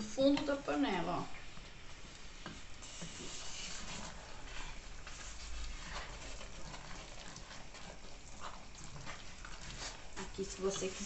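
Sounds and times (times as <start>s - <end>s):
wooden spoon scraping a pot: 2.0s - 11.0s.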